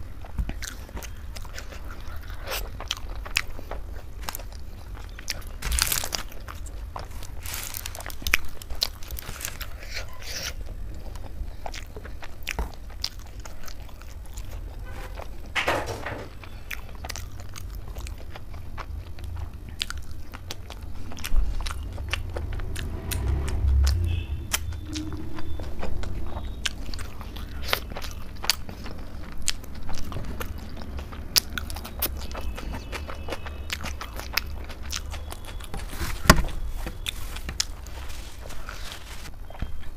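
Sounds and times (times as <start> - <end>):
chewing and biting food: 0.0 - 15.3, 16.1 - 39.9.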